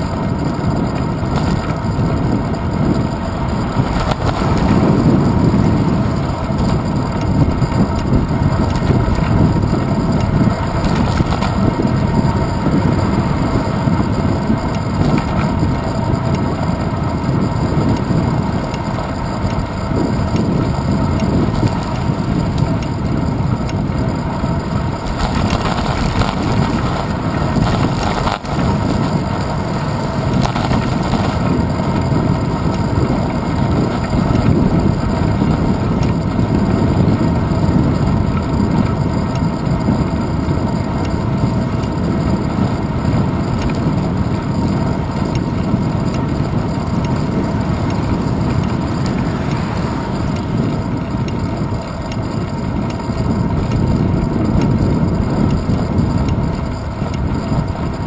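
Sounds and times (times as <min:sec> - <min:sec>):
bicycle rolling over asphalt: 0:00.0 - 0:58.0
wind buffeting: 0:00.0 - 0:58.0.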